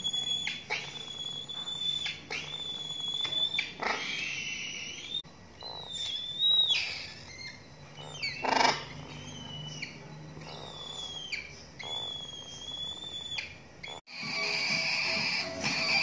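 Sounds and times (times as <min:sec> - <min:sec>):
cockatoo chick calling: 0:00.0 - 0:16.0
harsh squawk: 0:00.0 - 0:16.0.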